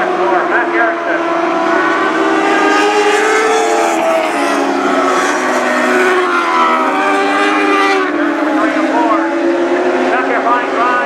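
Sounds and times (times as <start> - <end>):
race car engines racing past: 0.0 - 11.0.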